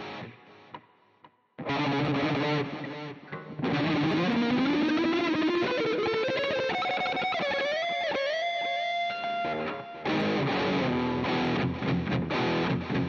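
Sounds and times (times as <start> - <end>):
overdriven electric guitar: 0.0 - 13.0.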